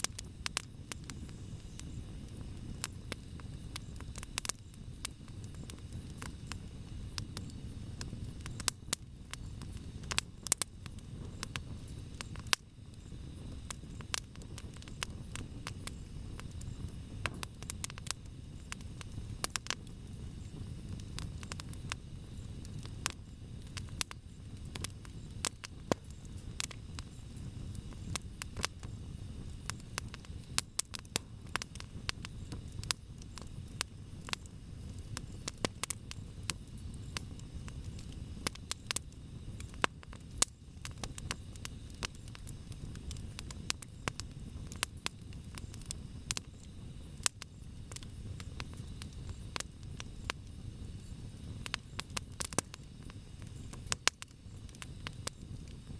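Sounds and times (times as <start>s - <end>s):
burning fire noise: 0.0s - 55.9s
campfire pops and snaps: 0.0s - 55.9s.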